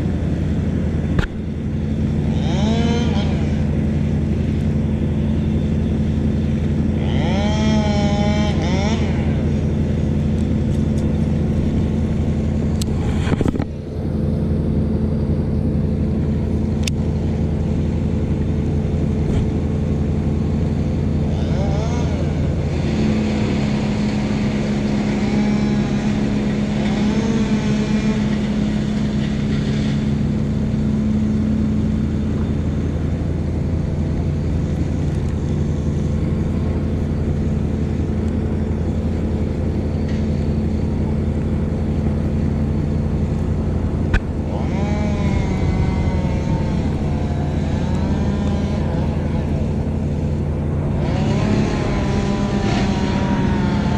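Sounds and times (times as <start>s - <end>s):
engine droning: 0.0s - 53.9s.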